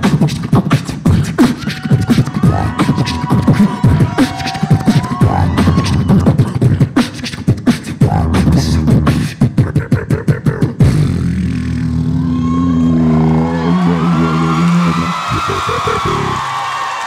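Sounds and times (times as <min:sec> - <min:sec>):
beatboxing: 0:00.0 - 0:16.6.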